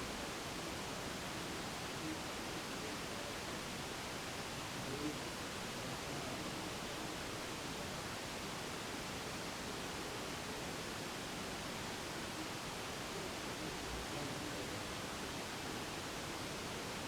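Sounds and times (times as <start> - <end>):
steady recording hiss: 0.0 - 17.0.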